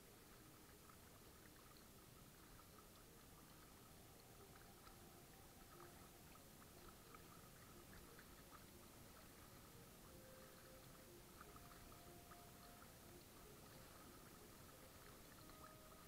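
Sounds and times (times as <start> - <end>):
soft ticks: 0.0 - 16.0
water lapping and dripping: 0.0 - 16.0.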